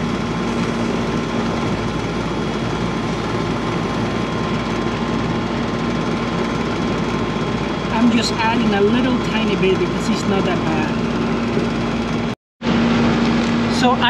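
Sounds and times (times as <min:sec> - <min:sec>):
air conditioner unit humming: 0:00.0 - 0:14.0.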